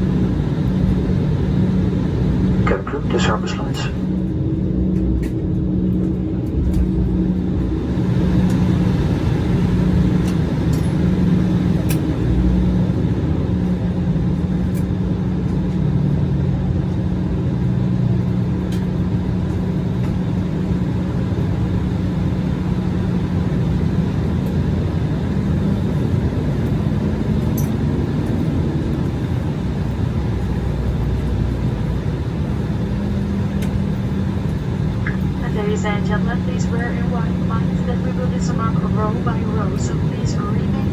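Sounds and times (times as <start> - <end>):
jet cabin rumble: 0.0 - 40.9
low engine hum: 0.0 - 40.9.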